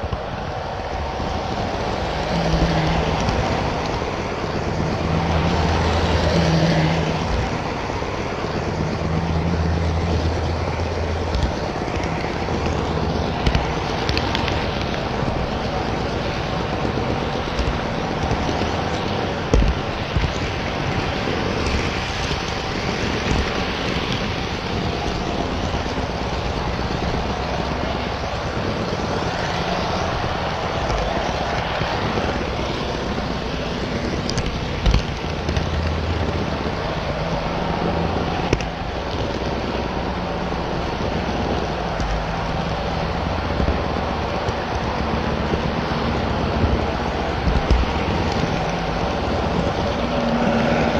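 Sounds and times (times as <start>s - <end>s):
model train rolling rumble: 0.0s - 50.9s.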